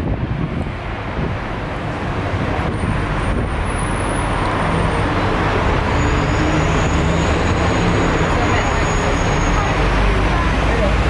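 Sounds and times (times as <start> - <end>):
bus engine rumble: 0.0 - 11.0
road traffic noise: 0.0 - 11.0.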